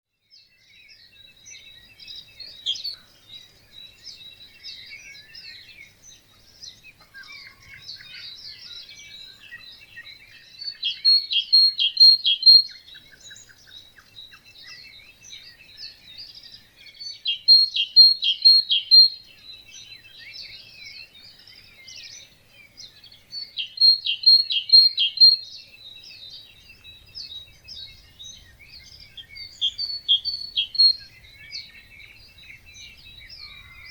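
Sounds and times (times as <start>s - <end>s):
songbirds singing and chirping: 0.1s - 33.9s.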